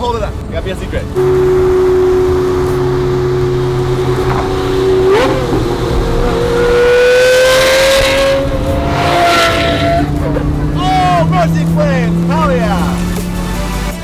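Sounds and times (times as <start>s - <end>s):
car engine revving and accelerating: 1.0s - 14.0s.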